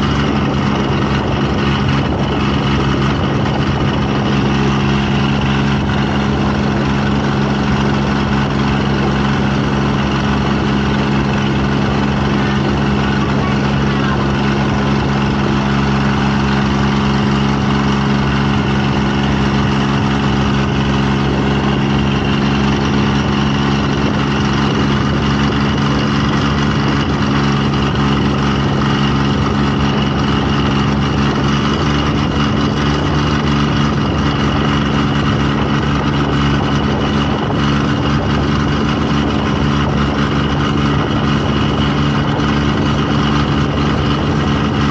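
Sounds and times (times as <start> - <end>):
engine running steadily: 0.0 - 44.9.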